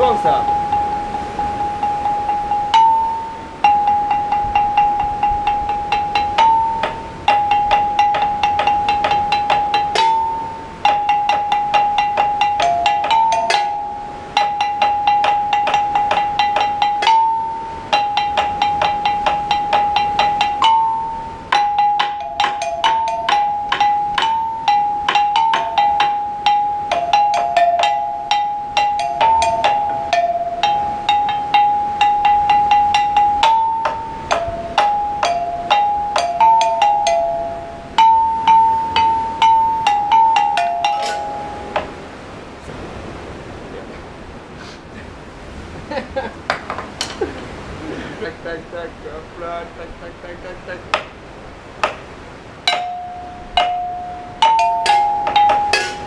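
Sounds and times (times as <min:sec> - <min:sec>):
music with repeated bright note: 0:00.0 - 0:42.0, 0:52.7 - 0:56.0.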